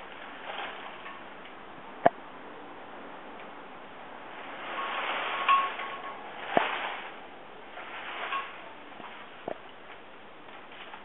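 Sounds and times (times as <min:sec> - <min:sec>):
rustling: 0:00.0 - 0:02.2, 0:04.2 - 0:11.0.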